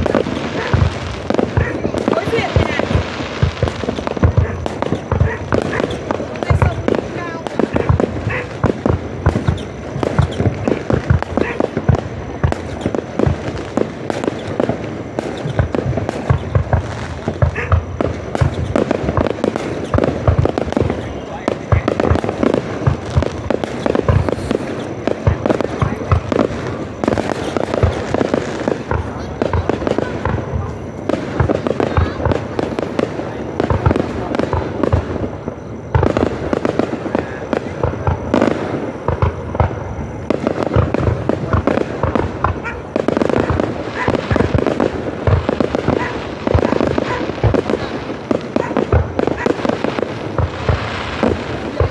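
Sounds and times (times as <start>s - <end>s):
crowd noise: 0.0s - 51.9s
fireworks booming: 0.0s - 51.9s.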